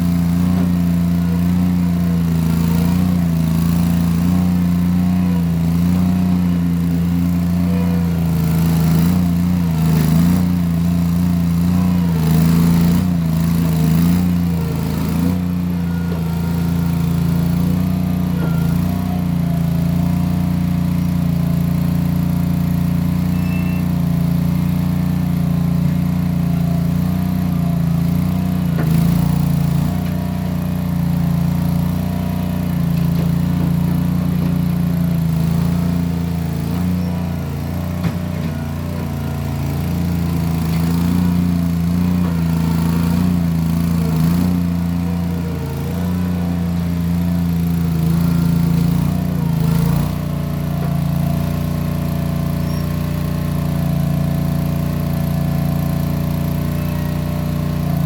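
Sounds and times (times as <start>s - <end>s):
skid steer engine running: 0.0s - 58.0s.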